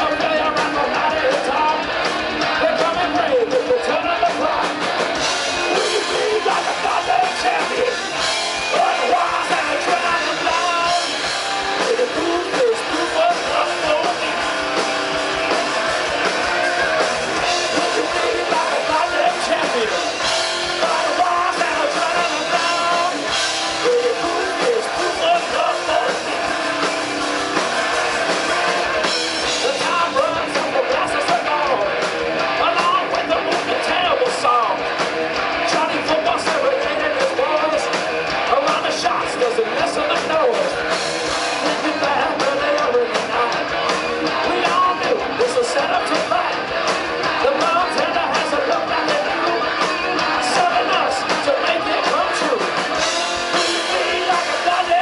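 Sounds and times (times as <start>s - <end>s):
person singing: 0.0s - 4.9s, 5.5s - 14.5s, 16.4s - 26.4s, 29.5s - 32.0s, 32.6s - 34.8s, 35.7s - 40.8s, 41.5s - 46.6s, 47.3s - 55.0s
rock band playing live: 0.0s - 55.0s.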